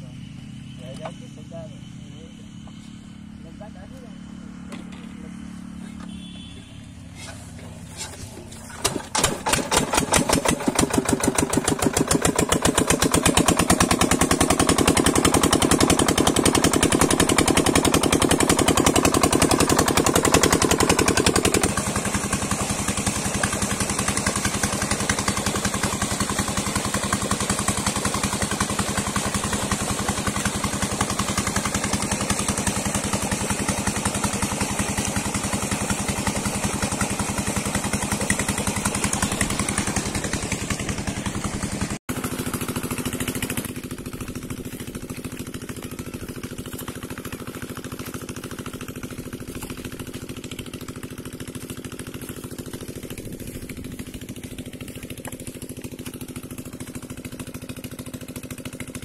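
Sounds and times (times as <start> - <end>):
diesel pump engine running: 0.0 - 59.0.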